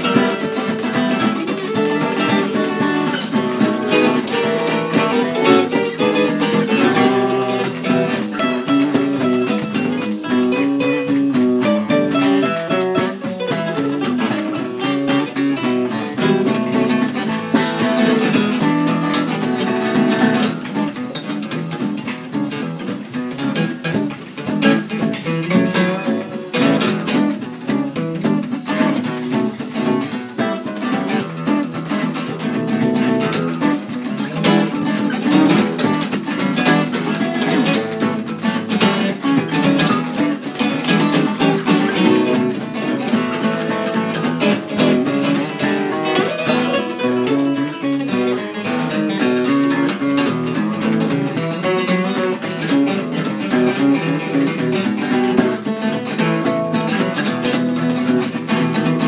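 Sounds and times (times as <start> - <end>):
acoustic guitar blues: 0.0 - 59.0.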